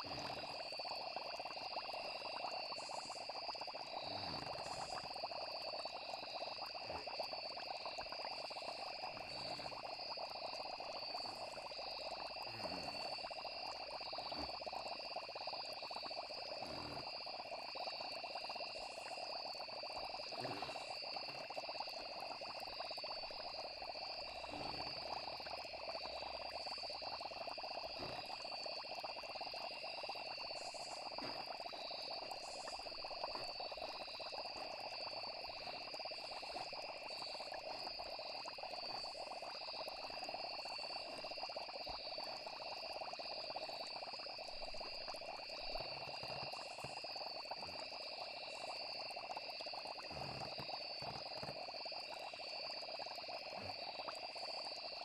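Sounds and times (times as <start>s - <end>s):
crickets trilling: 0.0s - 55.0s
frog chorus: 0.0s - 55.0s.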